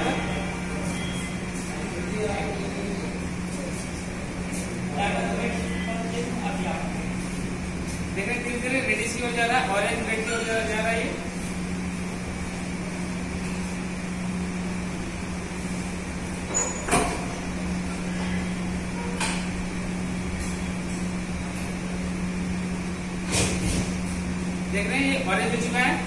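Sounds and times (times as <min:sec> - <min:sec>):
machine-like hum: 0:00.0 - 0:26.0.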